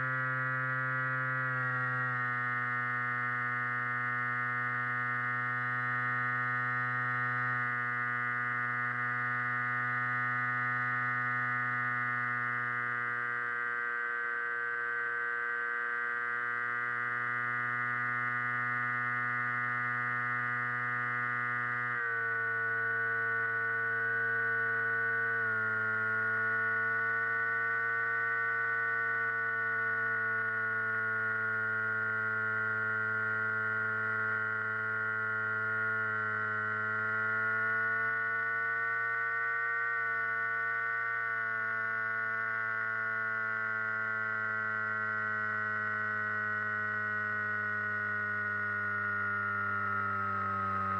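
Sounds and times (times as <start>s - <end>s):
electric motor and propeller whine: 0.0s - 50.9s.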